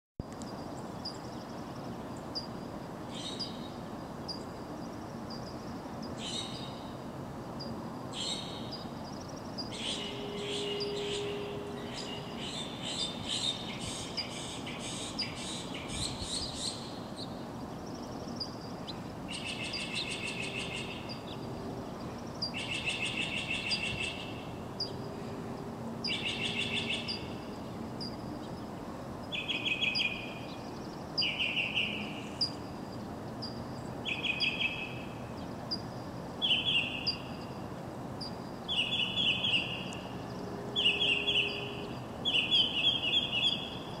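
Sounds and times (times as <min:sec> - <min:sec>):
low city hum: 0:00.2 - 0:44.0
songbirds trilling: 0:00.4 - 0:44.0.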